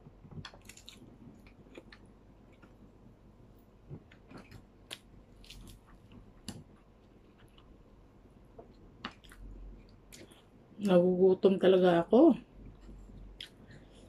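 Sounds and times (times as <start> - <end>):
person chewing food: 0.1 - 3.1, 3.7 - 10.6, 12.6 - 14.0.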